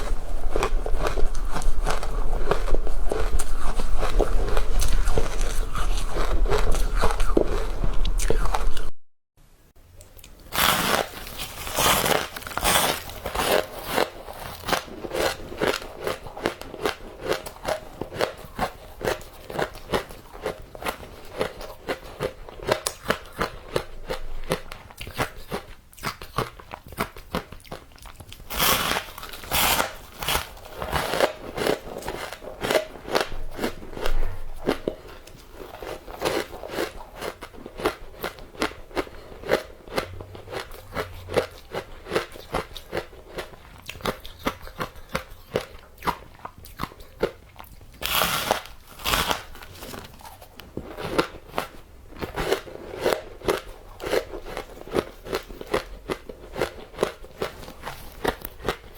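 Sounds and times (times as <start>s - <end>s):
ice being bitten and chewed: 0.0s - 8.9s, 10.1s - 58.9s.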